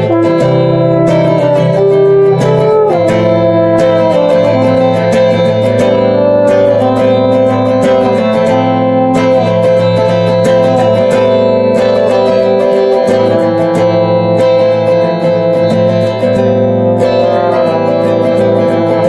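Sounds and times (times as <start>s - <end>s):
electric guitar chords: 0.0s - 19.0s
trumpet holding long notes: 0.0s - 19.0s.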